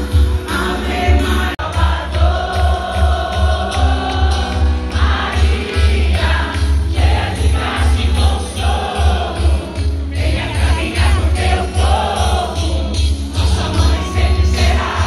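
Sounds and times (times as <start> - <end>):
amplified band: 0.0 - 15.0
voices singing together: 0.2 - 15.0
jingling percussion: 1.7 - 15.0.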